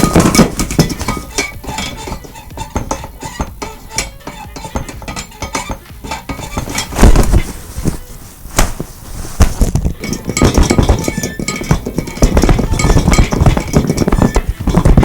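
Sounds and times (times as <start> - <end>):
dishes and cutlery clattering: 0.0 - 8.0, 8.6 - 15.0.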